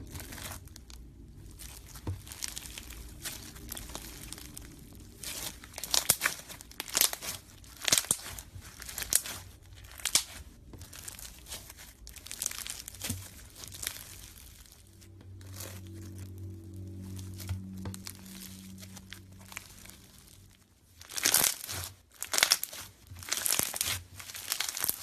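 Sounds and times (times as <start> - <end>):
music with low held tones: 0.0 - 21.4
slime crackling and popping: 0.0 - 25.0.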